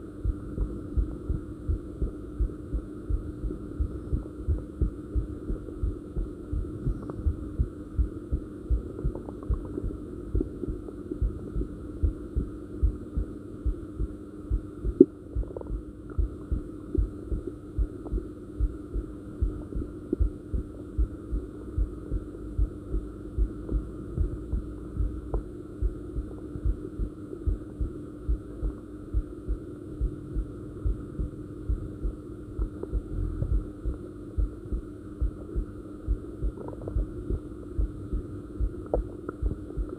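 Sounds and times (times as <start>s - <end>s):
steady hum: 0.0s - 39.9s
heartbeat thumps: 0.2s - 39.9s.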